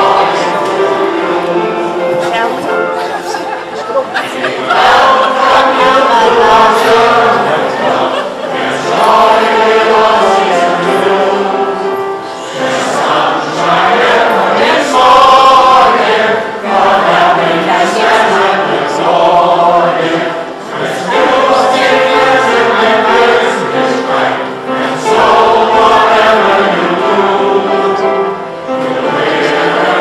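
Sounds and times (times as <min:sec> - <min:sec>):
mixed choir singing: 0:00.0 - 0:30.0.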